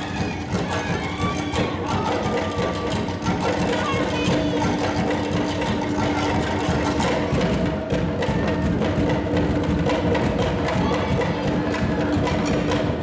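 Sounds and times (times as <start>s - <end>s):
drums: 0.0s - 13.0s
wooden clacking percussion: 0.0s - 13.0s.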